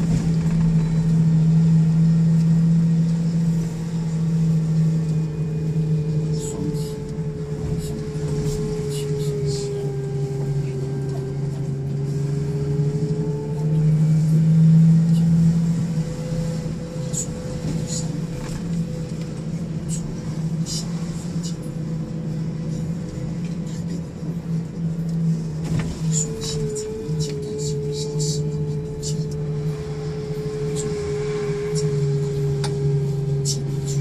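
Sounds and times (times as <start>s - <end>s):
bus engine drone: 0.0s - 34.0s
high-pitched whine: 0.0s - 34.0s.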